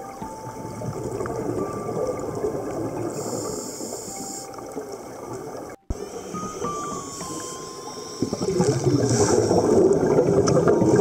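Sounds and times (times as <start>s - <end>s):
regulator bubbles gurgling underwater: 0.0s - 11.0s.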